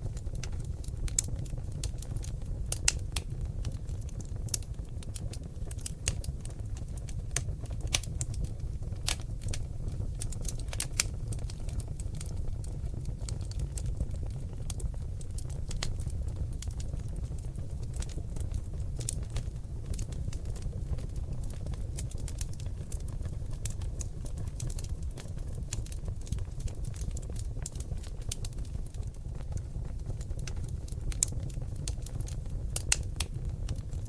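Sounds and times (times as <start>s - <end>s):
logs crackling in a fireplace: 0.0s - 34.0s.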